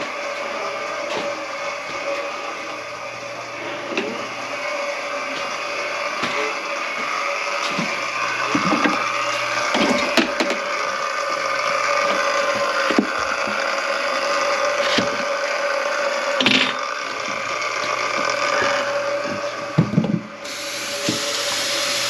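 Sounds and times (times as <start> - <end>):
drain-cleaning machine humming: 0.0 - 22.0.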